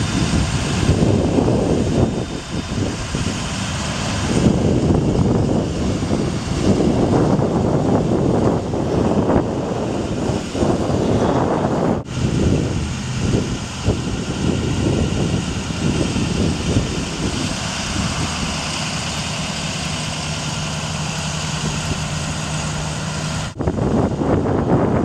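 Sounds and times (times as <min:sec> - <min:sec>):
truck engine idling: 0:00.0 - 0:25.0
wind buffeting microphone: 0:00.0 - 0:25.0.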